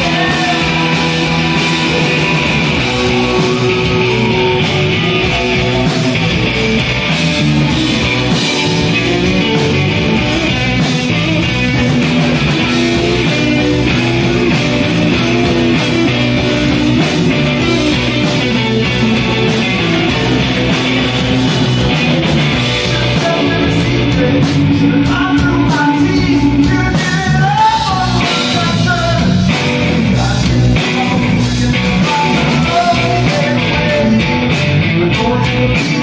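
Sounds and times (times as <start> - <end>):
drum kit: 0.0 - 36.0
electric guitars: 0.0 - 36.0.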